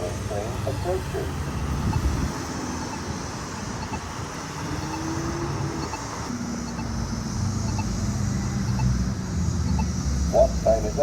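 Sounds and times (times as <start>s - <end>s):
pedestrian signal locator tone ticking: 0.0s - 11.0s
vehicle engine hum: 0.0s - 11.0s.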